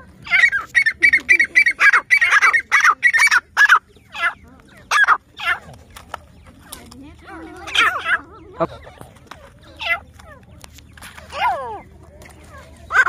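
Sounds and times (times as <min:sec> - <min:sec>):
francolins calling: 0:00.0 - 0:13.0.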